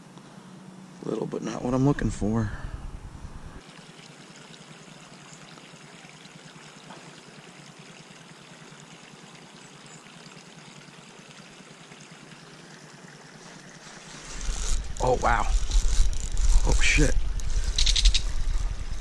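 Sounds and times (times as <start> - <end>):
water trickling: 3.6 - 19.0.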